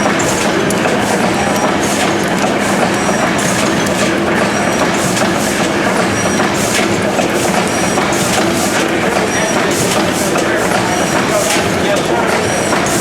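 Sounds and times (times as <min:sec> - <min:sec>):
engine and compressor clattering: 0:00.0 - 0:13.0.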